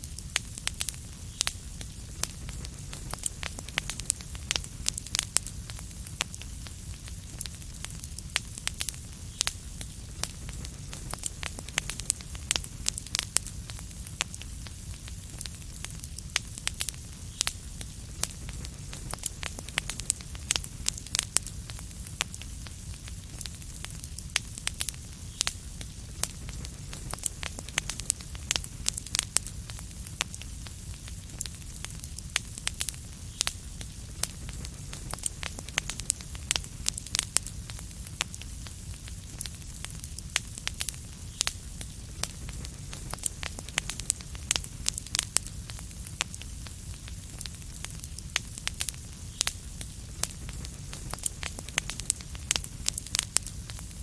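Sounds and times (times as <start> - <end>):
fire pops and snaps: 0.0 - 54.0
low rumble and soft hiss: 0.0 - 54.0
wood fire crackling: 0.0 - 54.0.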